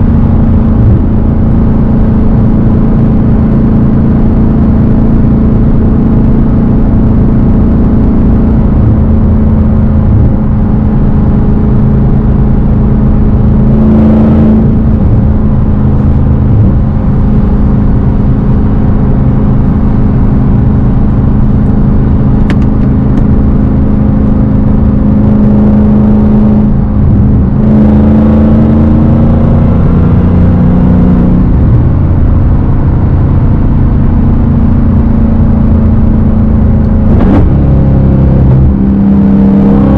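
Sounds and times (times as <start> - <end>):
loud car engine running: 0.0 - 39.9.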